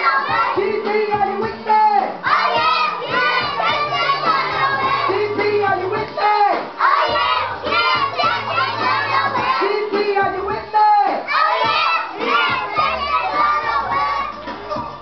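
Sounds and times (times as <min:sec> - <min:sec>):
children singing and shouting: 0:00.0 - 0:15.0.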